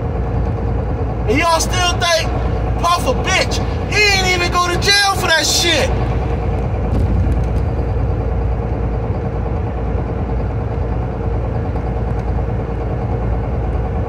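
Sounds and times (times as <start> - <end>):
car engine rumbling: 0.0 - 14.0
thin steady hum: 0.0 - 14.0.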